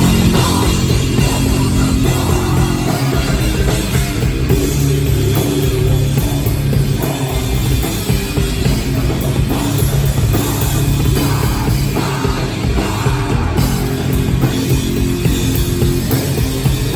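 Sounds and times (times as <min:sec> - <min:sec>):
drum kit: 0:00.0 - 0:16.9
guitar: 0:00.0 - 0:16.9
rock band playing live: 0:00.0 - 0:16.9.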